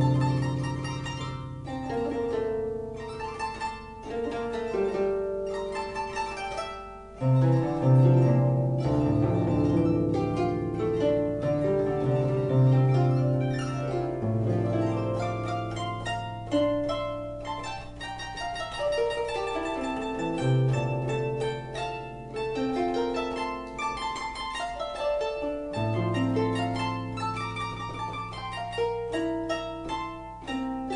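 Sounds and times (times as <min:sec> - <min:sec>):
harp melody of plucked notes: 0:00.0 - 0:30.9.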